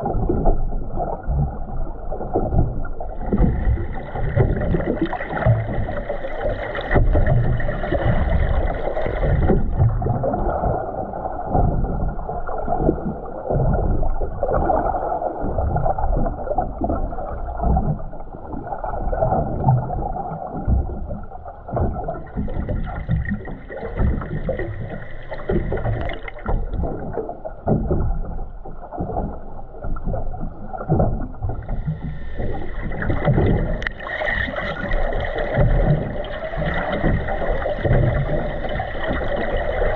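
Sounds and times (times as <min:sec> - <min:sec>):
muffled water sloshing and gurgling: 0:00.0 - 0:39.9.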